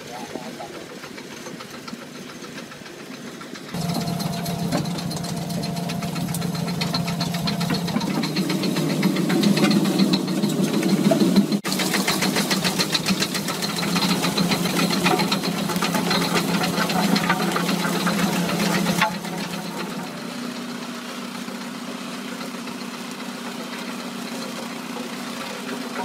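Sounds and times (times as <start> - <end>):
boat engine running: 0.0 - 26.0
rapid clattering of net and fish: 0.1 - 26.0.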